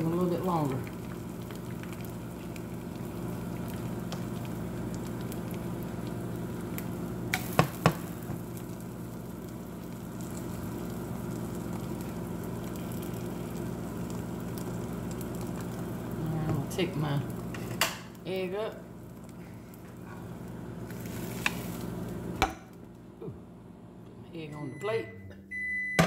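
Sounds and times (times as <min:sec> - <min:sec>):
egg sizzling in a pan: 0:00.0 - 0:22.5
microwave oven humming: 0:00.0 - 0:26.0.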